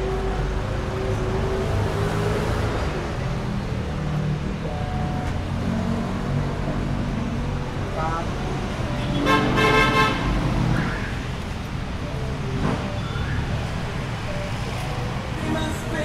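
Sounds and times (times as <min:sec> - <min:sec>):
road noise: 0:00.0 - 0:16.0
vehicle engines passing: 0:00.0 - 0:16.0.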